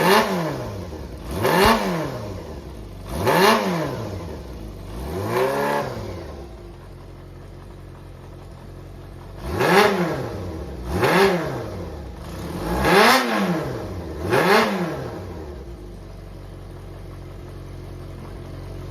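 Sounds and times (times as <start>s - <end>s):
motorcycle engine idling and revving: 0.0s - 18.9s.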